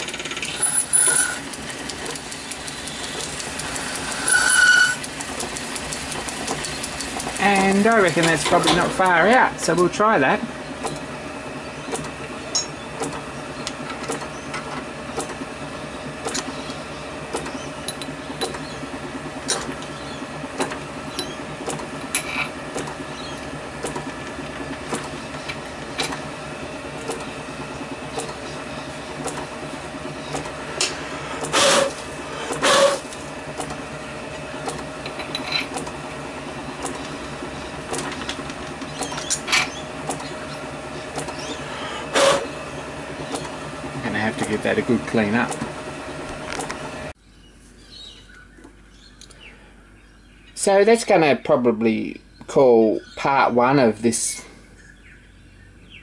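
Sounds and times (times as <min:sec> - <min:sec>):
lathe motor humming: 0:00.0 - 0:47.2.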